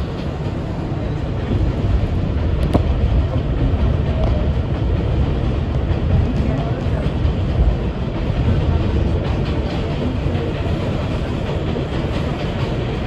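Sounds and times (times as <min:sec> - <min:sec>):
subway car wheels rumbling: 0:00.0 - 0:13.0.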